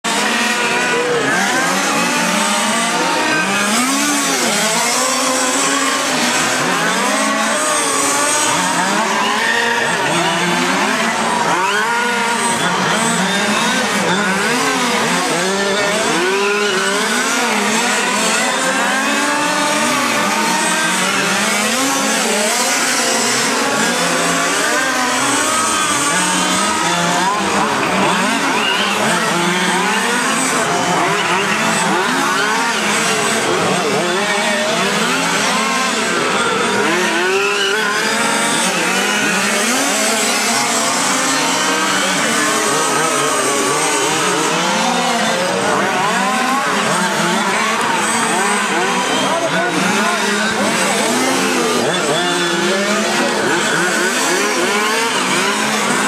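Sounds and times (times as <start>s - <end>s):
model race car engines revving: 0.0s - 56.0s.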